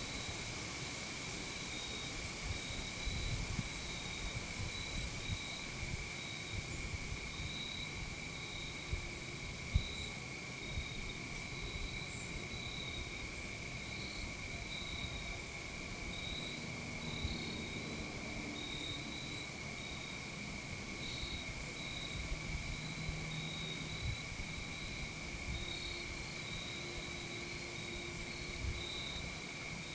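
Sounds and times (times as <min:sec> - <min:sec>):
high insect chirps: 0:00.0 - 0:29.9
insects droning: 0:00.0 - 0:29.9.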